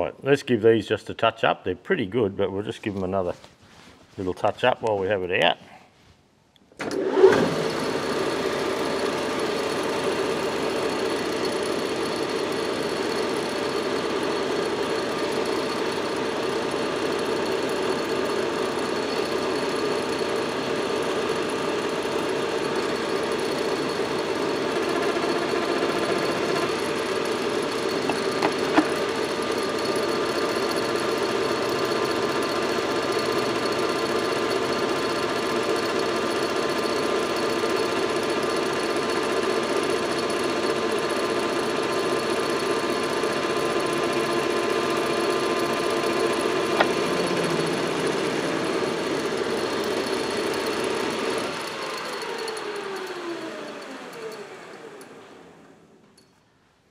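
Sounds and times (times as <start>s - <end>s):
metal lathe humming with whine: 7.0s - 55.6s.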